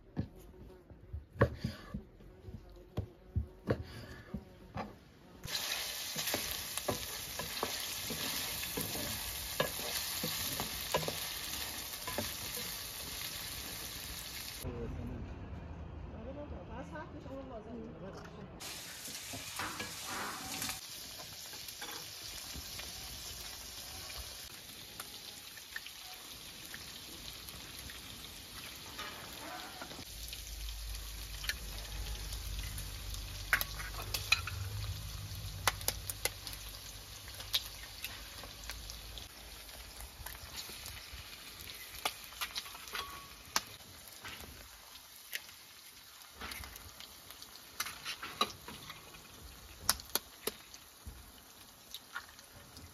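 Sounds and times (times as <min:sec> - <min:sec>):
meat sizzling in a pot: 0:05.4 - 0:14.7, 0:18.6 - 0:52.9.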